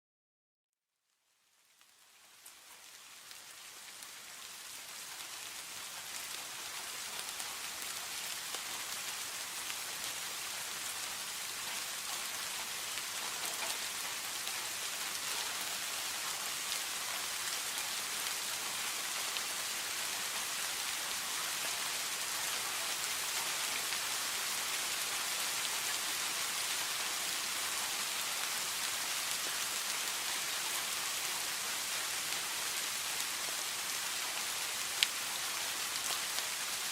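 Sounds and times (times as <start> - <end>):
rain falling: 1.1 - 36.9.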